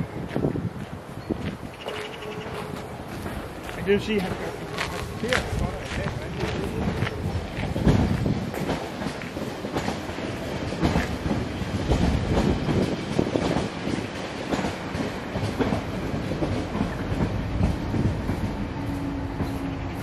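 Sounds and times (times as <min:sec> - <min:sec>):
train wheels clacking on rails: 0:00.2 - 0:20.0.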